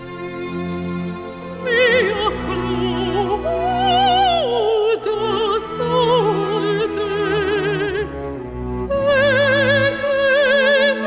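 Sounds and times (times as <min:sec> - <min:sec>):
woman singing operatically: 0:01.4 - 0:08.2, 0:08.9 - 0:11.0.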